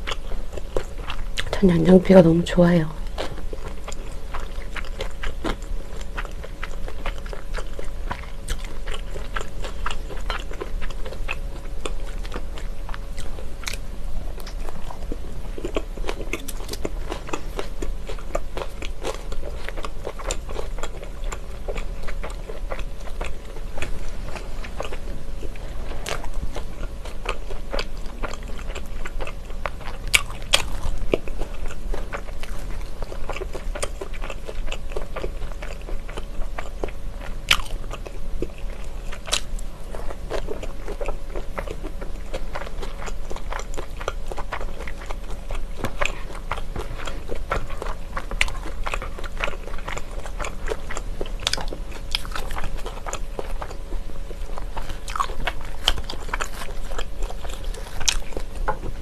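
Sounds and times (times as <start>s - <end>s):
close chewing and biting: 0.0s - 59.0s.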